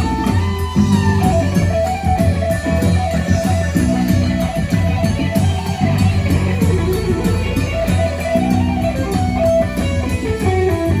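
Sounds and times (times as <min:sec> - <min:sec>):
guitar music over loudspeakers: 0:00.0 - 0:11.0.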